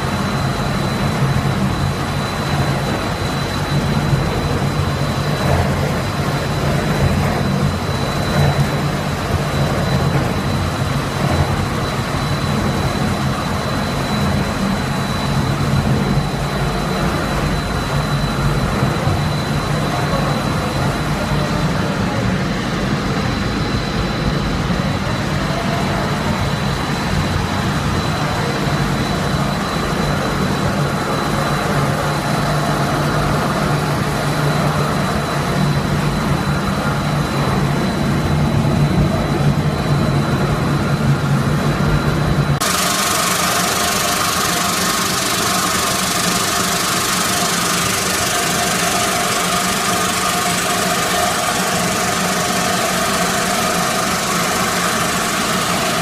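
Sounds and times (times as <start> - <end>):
machinery drone with high whine: 0.0 - 56.0.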